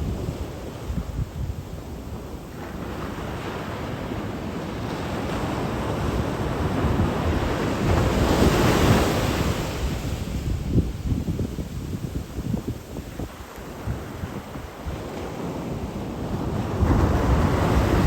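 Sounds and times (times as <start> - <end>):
sea waves crashing: 0.0 - 18.0
wind buffeting microphone: 0.0 - 18.0.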